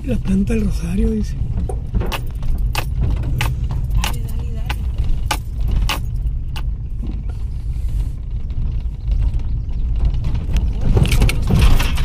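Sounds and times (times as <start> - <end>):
car engine and tyres rumbling: 0.0 - 12.0
car rattles: 0.0 - 12.0.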